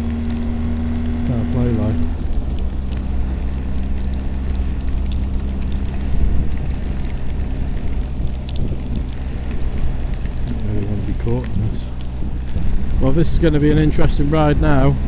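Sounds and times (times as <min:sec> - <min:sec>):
motorcycle engine cruising: 0:00.0 - 0:15.0
rain hitting camera: 0:00.0 - 0:15.0.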